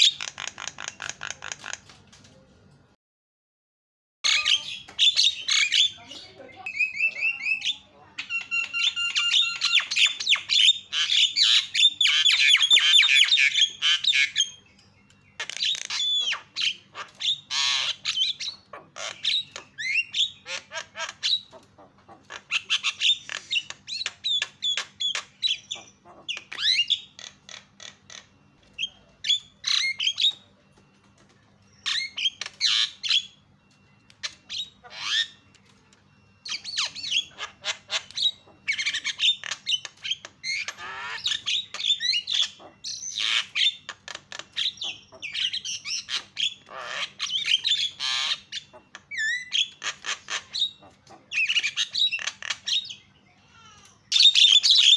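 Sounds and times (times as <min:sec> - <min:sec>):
myna squawking and chattering: 0:00.0 - 0:02.0, 0:04.2 - 0:14.6, 0:15.4 - 0:30.5, 0:31.8 - 0:35.5, 0:36.3 - 0:54.9.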